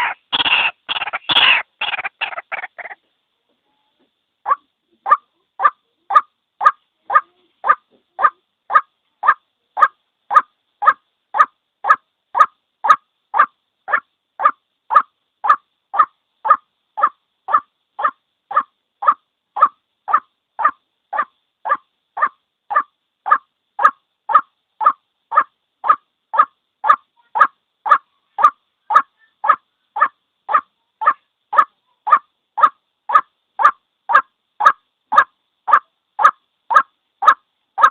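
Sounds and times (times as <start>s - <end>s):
waterhen calling: 0.0s - 3.0s, 4.5s - 37.9s.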